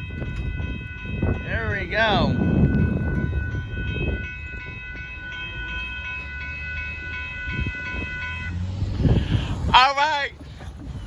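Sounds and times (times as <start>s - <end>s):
passenger train rumbling past: 0.0s - 11.0s
railroad crossing bell: 0.0s - 11.0s.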